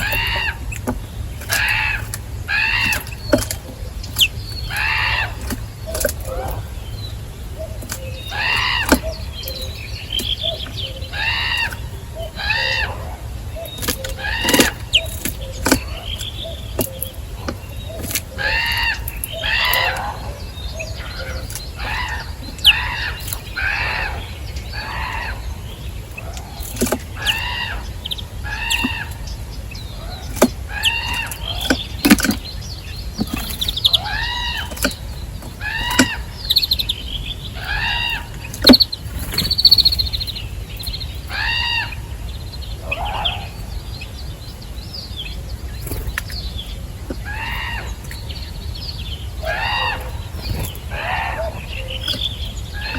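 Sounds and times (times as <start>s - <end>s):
bird calling: 0.0s - 52.9s.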